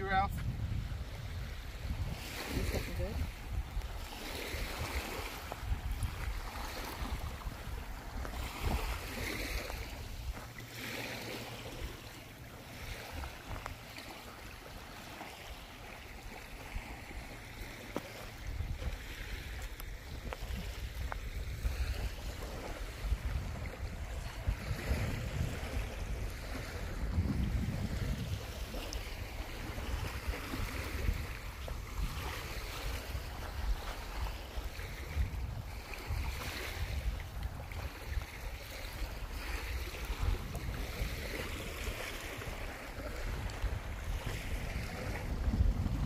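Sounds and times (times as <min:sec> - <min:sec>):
wind buffeting microphone: 0:00.0 - 0:10.8, 0:11.6 - 0:46.0
waves washing: 0:00.0 - 0:46.0.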